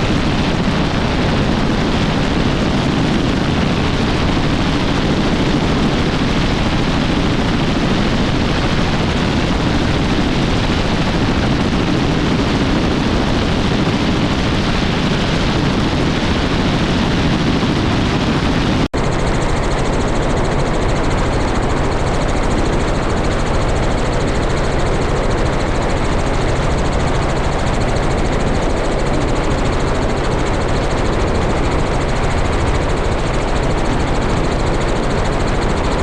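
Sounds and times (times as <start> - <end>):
helicopter engine and rotor: 0.0 - 36.0.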